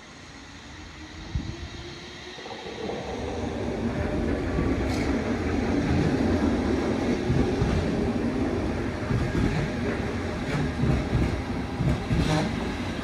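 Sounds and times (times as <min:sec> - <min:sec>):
electric train rolling on rails: 0:00.0 - 0:13.0.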